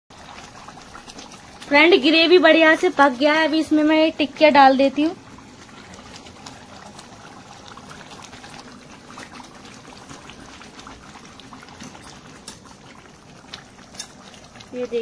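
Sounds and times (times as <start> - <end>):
gravy bubbling and popping: 0.1 - 15.0.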